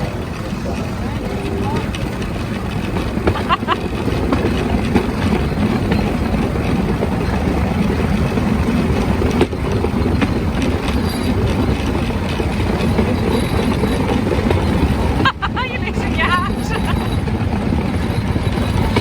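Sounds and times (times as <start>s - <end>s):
rail joint clicks: 0.0s - 19.0s
wheels clattering on rails: 0.0s - 19.0s.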